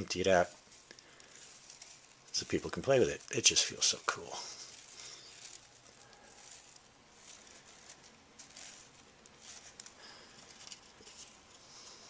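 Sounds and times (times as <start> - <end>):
plastic bands scratching and clicking: 0.0 - 12.0.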